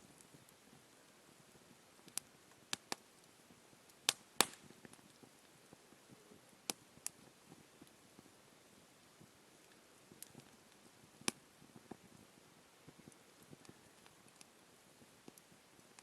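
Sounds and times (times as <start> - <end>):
wood campfire crackling: 0.0 - 16.0.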